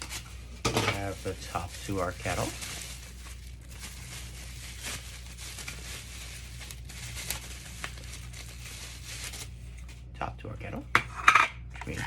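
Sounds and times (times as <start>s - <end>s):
packaging rustling: 0.0s - 10.1s.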